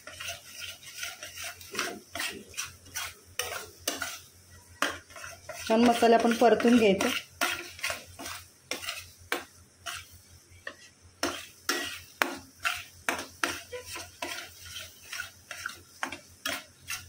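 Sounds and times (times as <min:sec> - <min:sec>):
paste sizzling: 0:00.0 - 0:17.0
spatula scraping a pan: 0:00.0 - 0:17.0.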